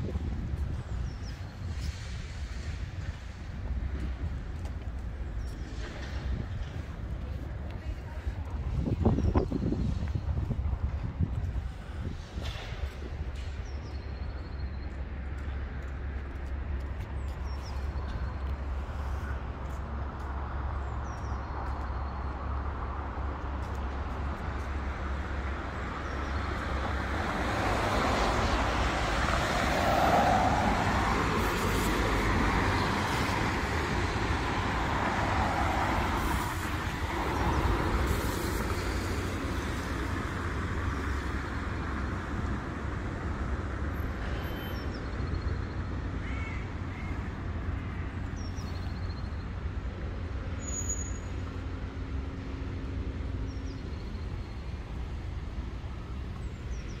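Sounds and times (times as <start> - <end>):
low traffic rumble: 0.0 - 57.0.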